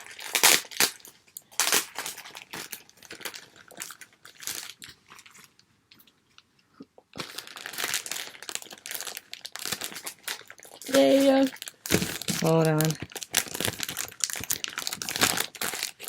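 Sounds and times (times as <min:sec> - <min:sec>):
plastic packaging rustling: 0:00.0 - 0:06.1, 0:07.1 - 0:16.0.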